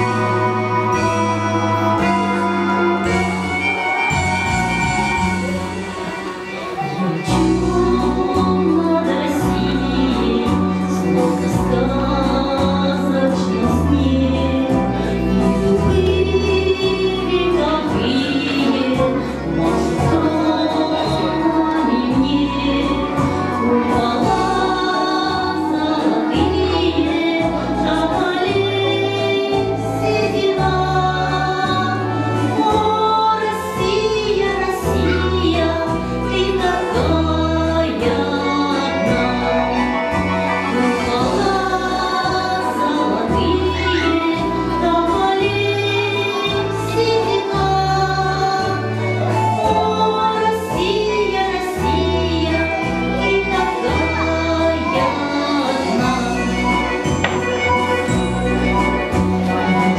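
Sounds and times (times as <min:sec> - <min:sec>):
woman singing into a microphone: 0:00.0 - 0:04.2, 0:06.4 - 0:59.9.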